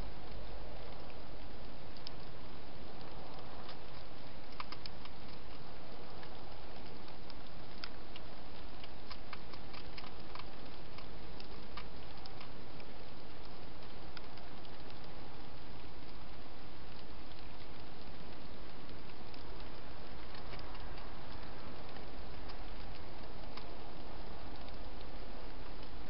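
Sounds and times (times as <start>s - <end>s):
hedgehog eating clicks: 0.0s - 26.0s
steady hiss: 0.0s - 26.0s.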